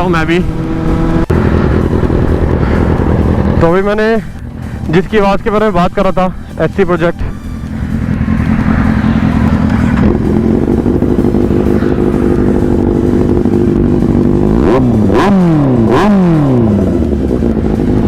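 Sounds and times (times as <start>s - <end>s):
motorcycle idling and revving: 0.0s - 18.0s.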